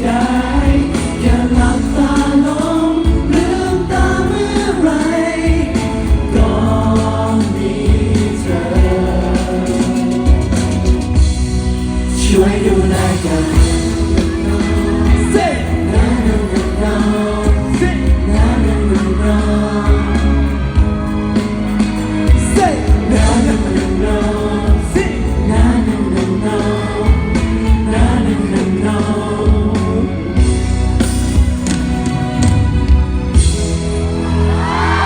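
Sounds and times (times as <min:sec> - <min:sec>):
pop song with sung vocals: 0:00.0 - 0:32.5, 0:33.2 - 0:35.0.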